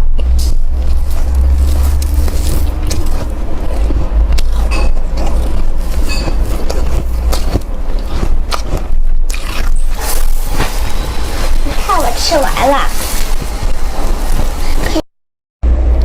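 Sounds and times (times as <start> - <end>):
low rumble: 0.0 - 15.0, 15.6 - 16.0
crunchy frost chewing: 0.4 - 15.0.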